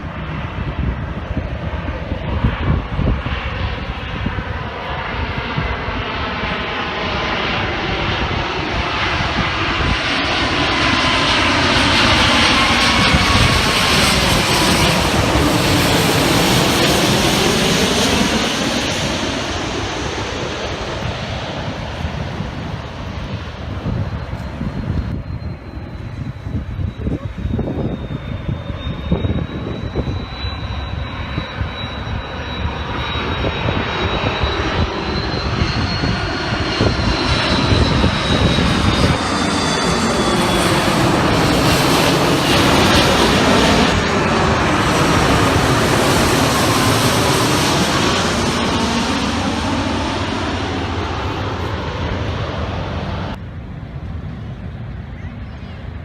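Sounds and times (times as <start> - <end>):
aircraft engine passing overhead: 0.0 - 56.0.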